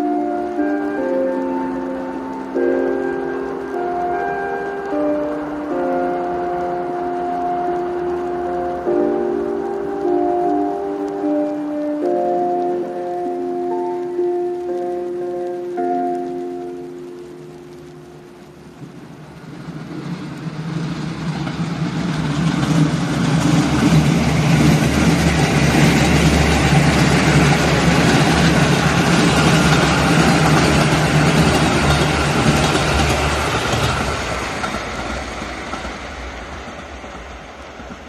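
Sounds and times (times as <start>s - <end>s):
diesel train engine drone: 0.0s - 38.0s
train wheels rushing on rail: 0.0s - 38.0s.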